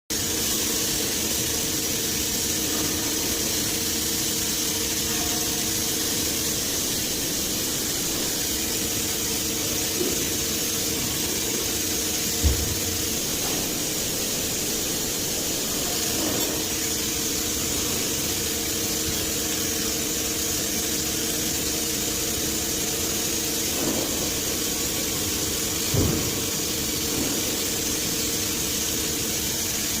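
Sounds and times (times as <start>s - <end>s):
milling machine humming: 0.1s - 30.0s.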